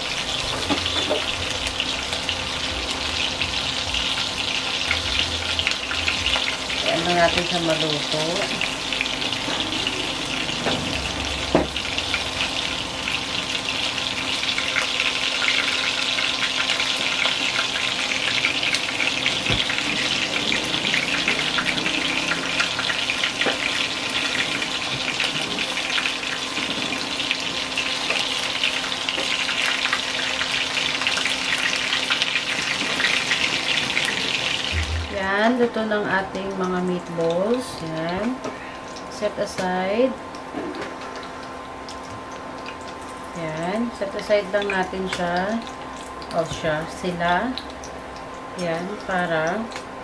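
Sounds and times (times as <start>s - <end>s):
meatballs sizzling in oil: 0.0s - 50.0s.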